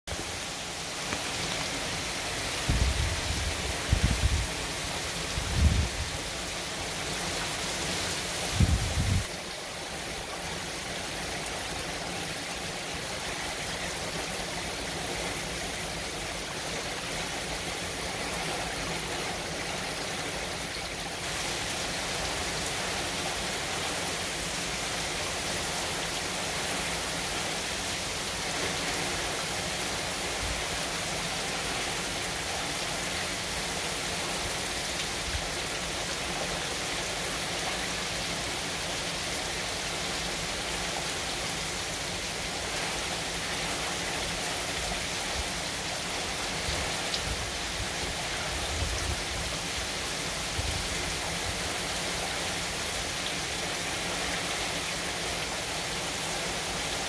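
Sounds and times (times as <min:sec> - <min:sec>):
heavy rain on pavement: 0:00.1 - 0:57.0.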